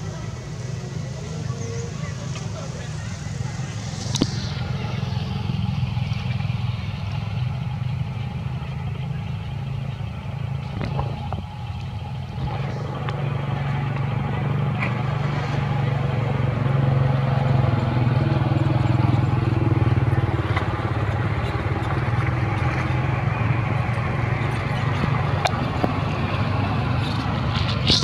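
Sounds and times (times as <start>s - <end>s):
motor engine humming: 0.0s - 28.0s.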